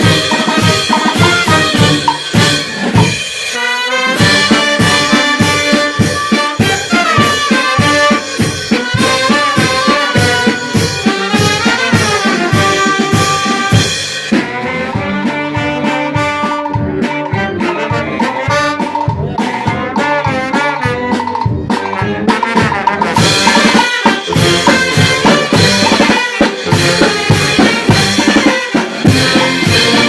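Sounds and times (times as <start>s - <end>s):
brass band playing: 0.0s - 30.0s
steady drum beat: 0.0s - 30.0s.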